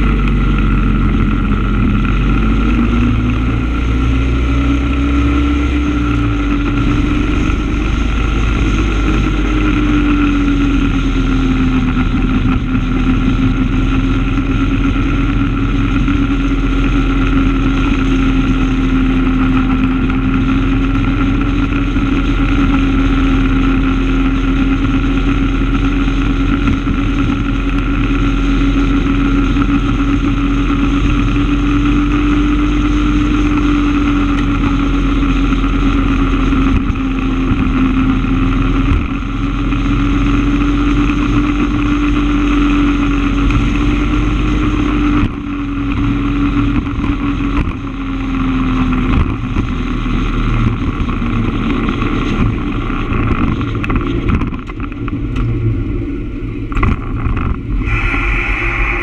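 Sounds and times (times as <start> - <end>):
vehicle engine droning: 0.0 - 59.0
wind and road noise: 0.0 - 59.0.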